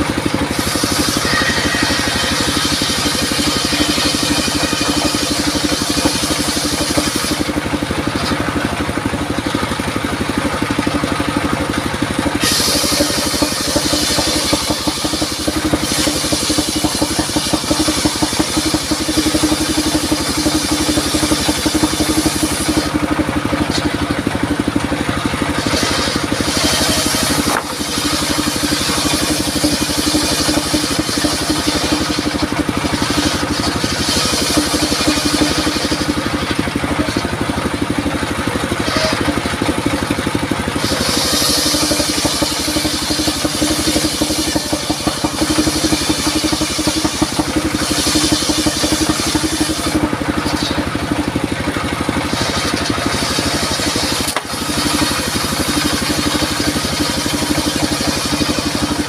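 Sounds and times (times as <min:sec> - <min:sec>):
saw blade hissing through wood: 0:00.0 - 0:08.4, 0:09.8 - 0:38.0, 0:38.8 - 0:59.0
circular saw engine running: 0:00.0 - 0:59.0.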